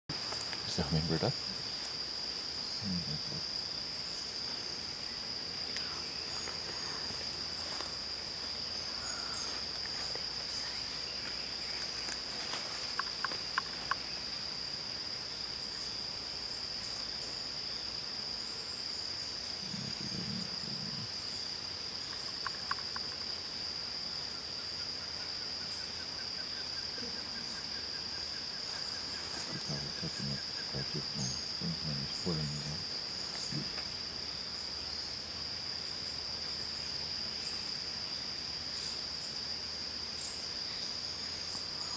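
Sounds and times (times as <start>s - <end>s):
high-pitched insect chorus: 0.1s - 41.9s.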